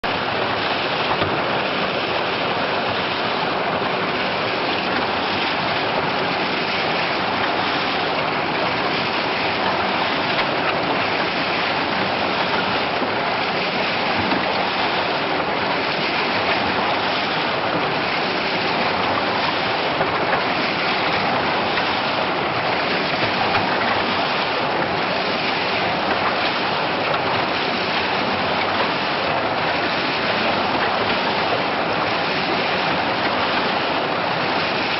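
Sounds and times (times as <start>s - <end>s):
concrete mixer churning: 0.0s - 34.9s.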